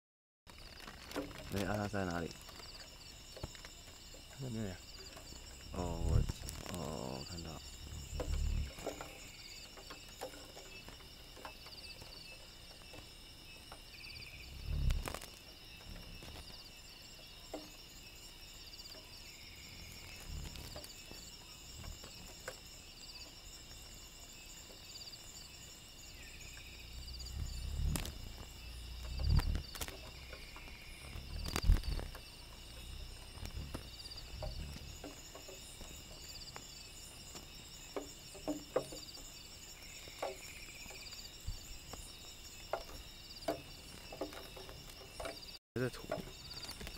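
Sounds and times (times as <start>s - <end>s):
insect pulsing call: 0.5s - 46.9s
insects trilling: 0.5s - 46.9s.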